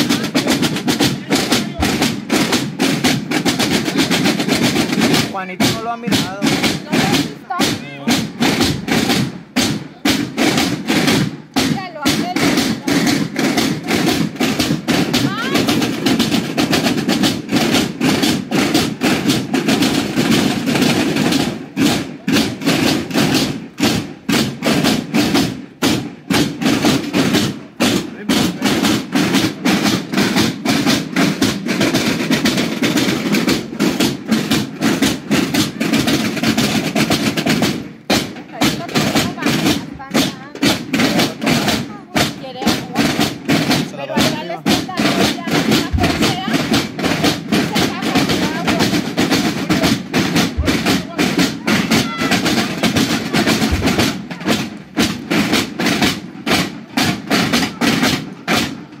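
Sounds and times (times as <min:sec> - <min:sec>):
marching snare drums: 0:00.0 - 0:59.0.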